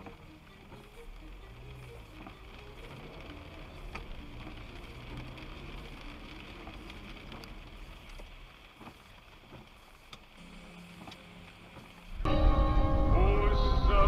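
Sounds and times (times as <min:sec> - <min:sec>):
wet tyres hissing: 0:00.0 - 0:12.3
car engine and road rumble: 0:00.0 - 0:14.0.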